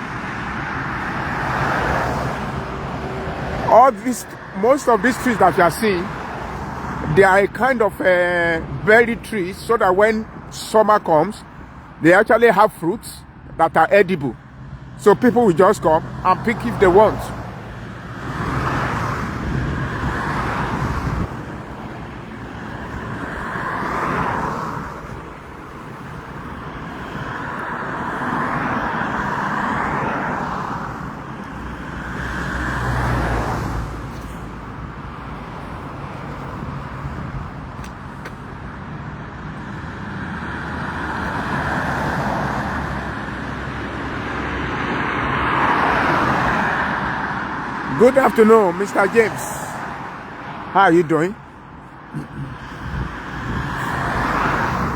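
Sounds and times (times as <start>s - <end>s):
cars passing: 0.0s - 54.9s.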